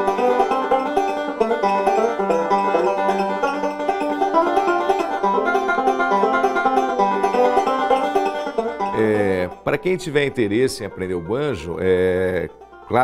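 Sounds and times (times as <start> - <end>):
banjo picked fast: 0.0 - 13.0.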